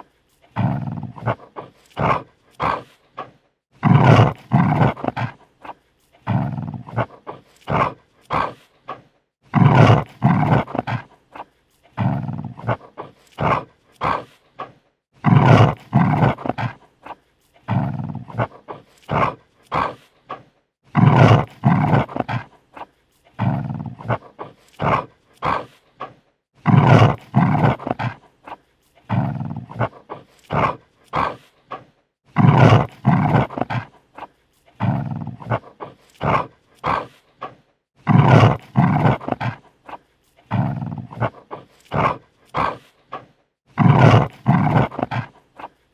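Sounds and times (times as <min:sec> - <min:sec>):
dog snarling: 0:00.0 - 0:45.9.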